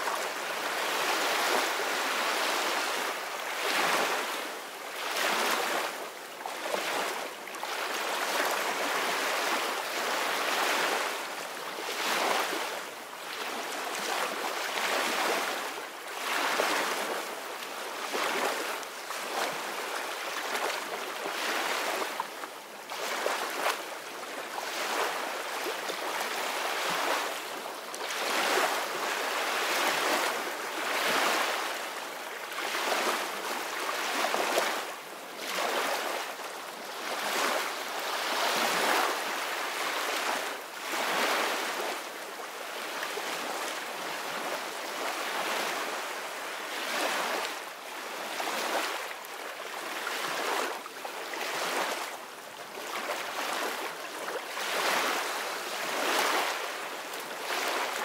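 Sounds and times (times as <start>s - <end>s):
small waves breaking on shore: 0.0s - 58.0s.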